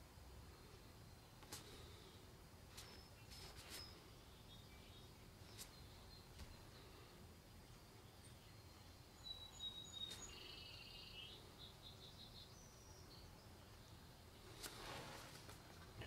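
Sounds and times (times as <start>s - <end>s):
faint high chirps: 0.5s - 14.0s.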